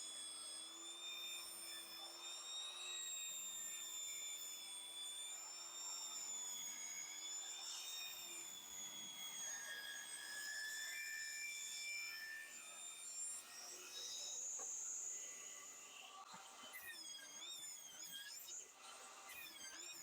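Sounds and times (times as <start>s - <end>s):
table saw whining: 0.0s - 20.0s.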